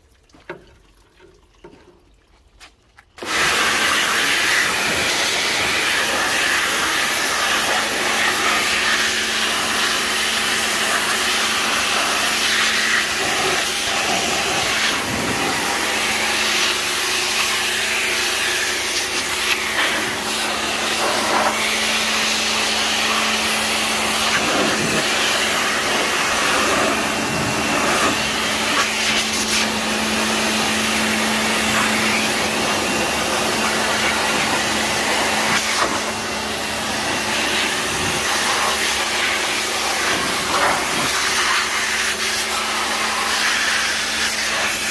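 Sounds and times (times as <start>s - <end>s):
pressure washer pump hum: 3.1s - 44.9s
water jet hissing on metal: 3.2s - 29.8s, 30.5s - 36.1s, 36.8s - 44.9s.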